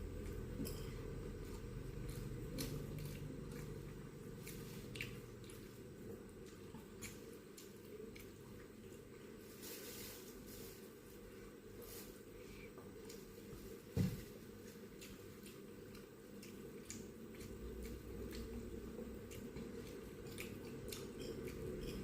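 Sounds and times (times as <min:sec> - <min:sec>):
person chewing food: 0:00.1 - 0:09.5, 0:12.1 - 0:22.0.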